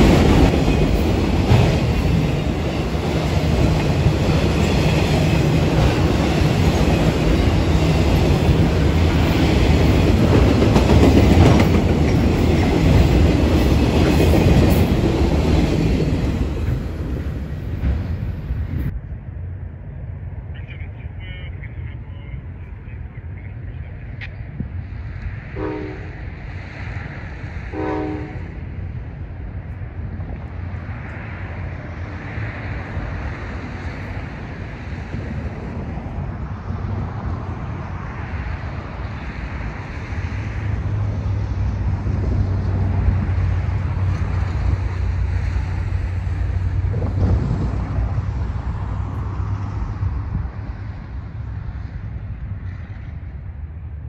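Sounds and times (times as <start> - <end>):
wind buffeting microphone: 0.0 - 20.5, 23.8 - 54.0
train passing rumble: 0.0 - 54.0.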